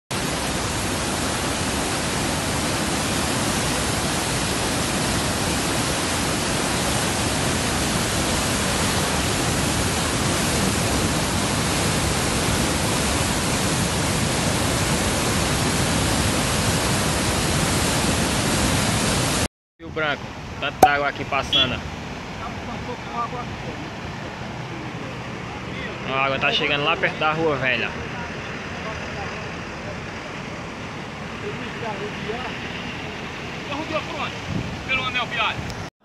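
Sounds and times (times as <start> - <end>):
river rushing in a loud torrent: 0.1 - 19.5, 20.2 - 35.9.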